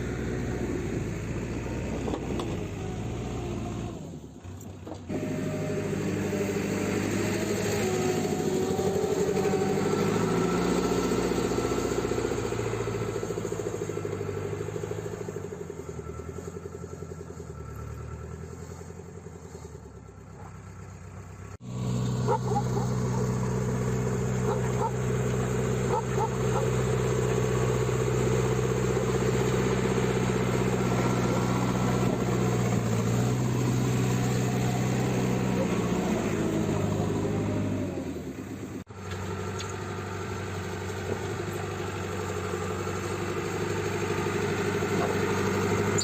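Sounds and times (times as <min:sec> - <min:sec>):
backhoe diesel engine running: 0:00.0 - 0:46.0.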